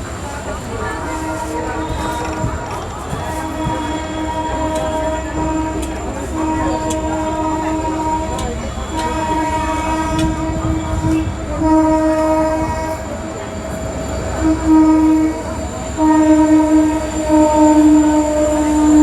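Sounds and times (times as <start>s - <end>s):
train rumbling: 0.0s - 19.0s
train horn blasts: 0.8s - 19.0s.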